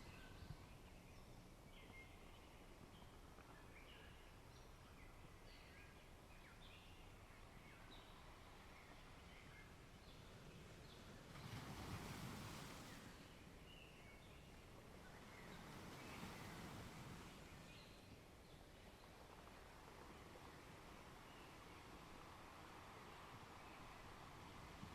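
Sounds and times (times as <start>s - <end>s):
low steady background hush: 0.0s - 24.9s.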